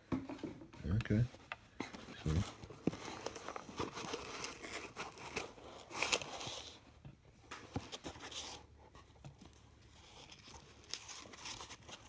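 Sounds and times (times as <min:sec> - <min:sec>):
rustling and scraping of packaging: 0:00.4 - 0:12.0.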